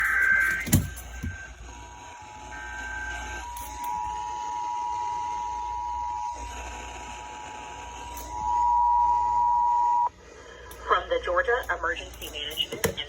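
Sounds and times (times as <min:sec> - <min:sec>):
radio hiss: 0:01.7 - 0:13.0.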